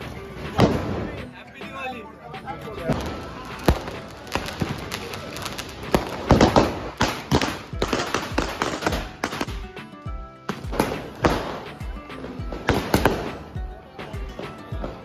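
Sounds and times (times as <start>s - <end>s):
firecrackers banging: 0.0s - 1.4s, 2.4s - 15.0s
background music: 0.0s - 15.0s.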